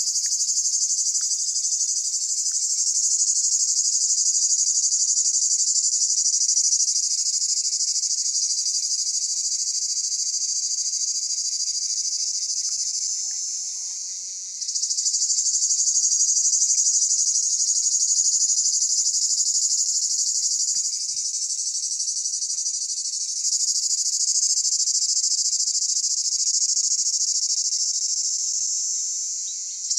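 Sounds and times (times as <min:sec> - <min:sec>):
cicadas buzzing: 0:00.0 - 0:29.9.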